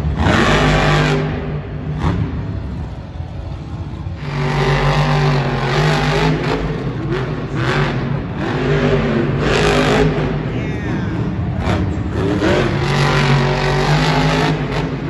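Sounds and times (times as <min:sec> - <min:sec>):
truck engine revving hard: 0:00.0 - 0:02.8, 0:04.1 - 0:10.5, 0:11.1 - 0:15.0.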